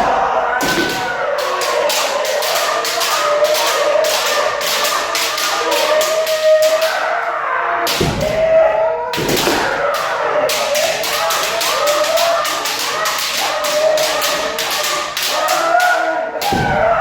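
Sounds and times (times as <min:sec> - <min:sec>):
bamboo swords clacking: 0:00.0 - 0:07.2, 0:07.8 - 0:08.5, 0:09.2 - 0:17.0
people shouting: 0:00.0 - 0:17.0.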